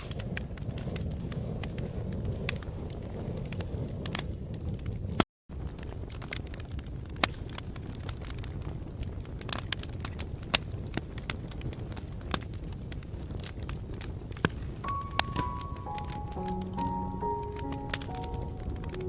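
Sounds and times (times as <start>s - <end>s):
fire pops and snaps: 0.0s - 19.0s
wood fire crackling: 0.0s - 19.0s.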